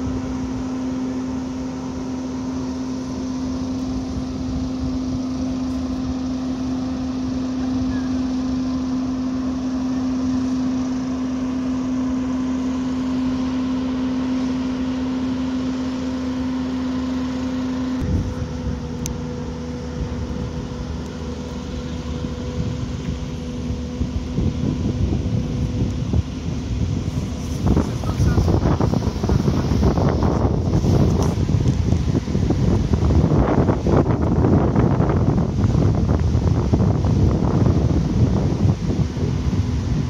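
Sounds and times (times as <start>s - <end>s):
wind buffeting microphone: 0.0s - 16.9s, 18.0s - 40.0s
truck machinery droning hum: 0.0s - 40.0s.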